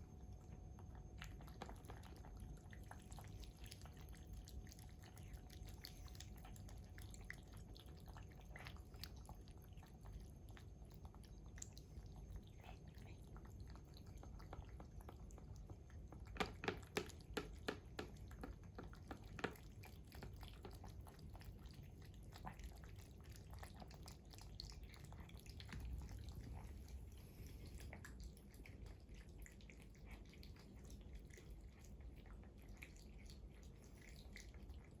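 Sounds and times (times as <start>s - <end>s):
cats chewing and lapping: 0.0s - 35.0s.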